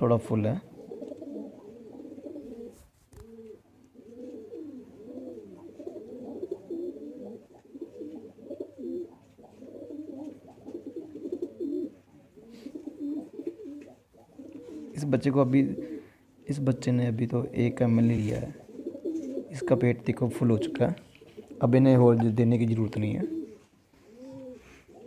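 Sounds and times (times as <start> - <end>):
pigeons cooing: 0.6 - 25.0.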